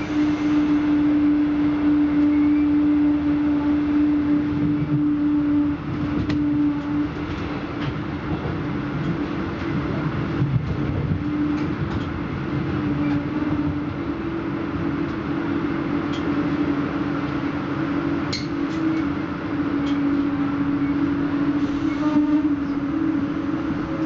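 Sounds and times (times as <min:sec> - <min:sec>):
train hum: 0:00.0 - 0:24.0
train rumble: 0:00.0 - 0:24.0.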